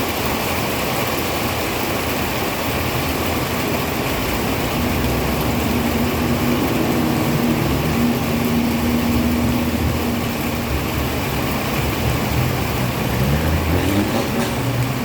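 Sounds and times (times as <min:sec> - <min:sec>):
heavy rain falling: 0:00.0 - 0:15.0
engine hum: 0:00.1 - 0:15.0.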